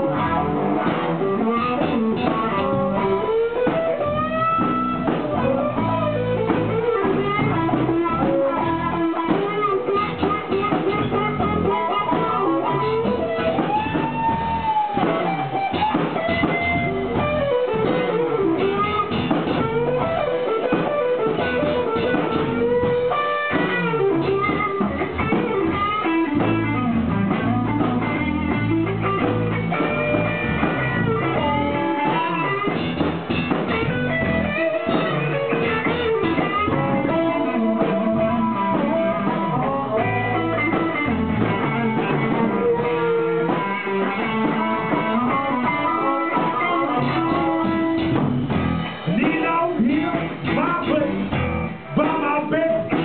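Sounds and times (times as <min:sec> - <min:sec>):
bass guitar: 0:00.0 - 0:53.0
drum kit: 0:00.0 - 0:53.0
electric guitar bending notes: 0:00.0 - 0:53.0.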